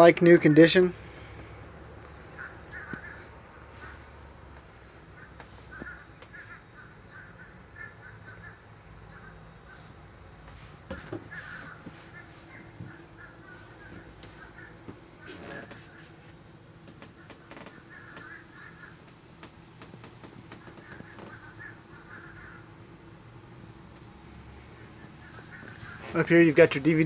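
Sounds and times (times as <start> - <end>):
birds calling: 0.4 - 27.0.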